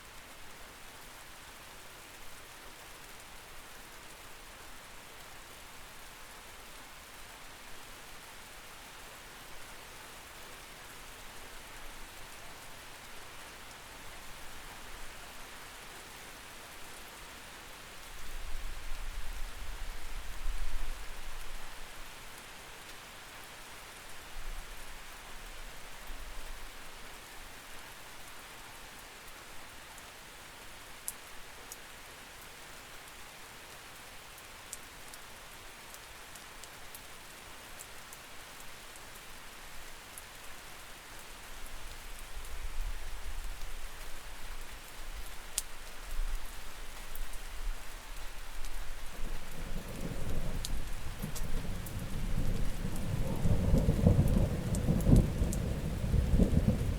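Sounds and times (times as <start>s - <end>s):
rain through a window: 0.0s - 56.9s.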